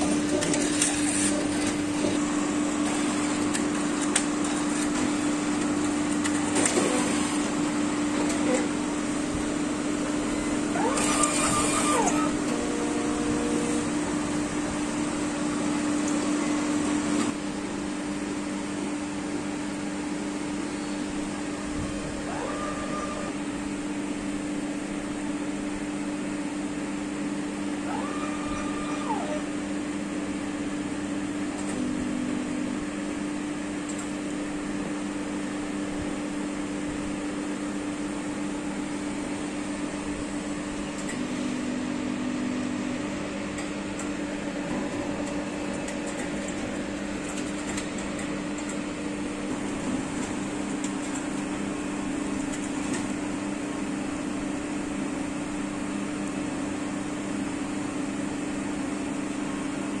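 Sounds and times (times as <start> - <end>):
analyzer fans and motors humming: 0.0 - 60.0.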